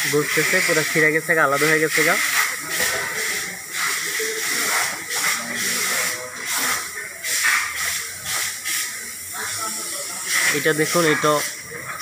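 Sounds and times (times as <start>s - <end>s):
faint voices: 0.0s - 12.0s
steady hissing noise: 0.0s - 12.0s.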